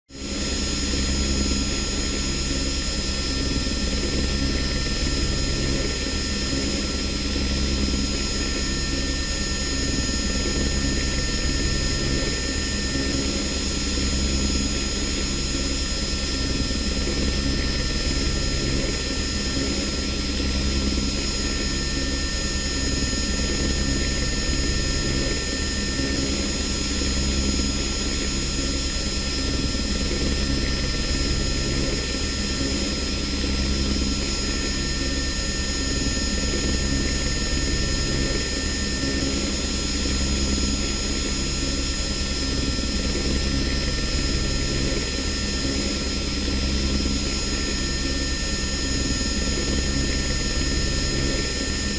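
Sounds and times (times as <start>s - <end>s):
helicopter drone: 0.1s - 51.9s.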